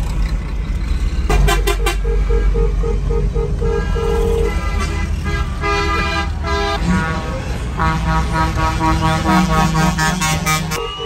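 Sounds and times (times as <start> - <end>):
vehicle horns honking: 1.3 - 11.0.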